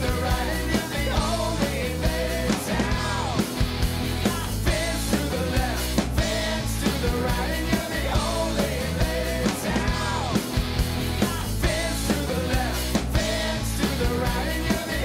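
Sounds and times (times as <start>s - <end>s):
band playing a song: 0.0s - 15.0s.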